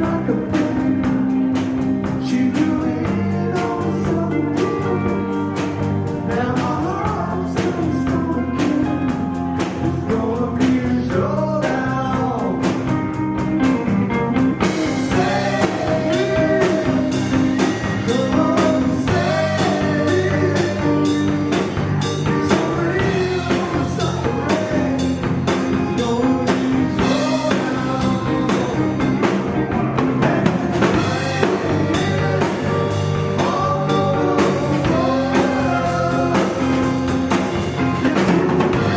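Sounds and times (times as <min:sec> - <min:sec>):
drum kit beat: 0:00.0 - 0:38.9
live rock band playing: 0:00.0 - 0:38.9
sung vocal line: 0:00.0 - 0:38.9.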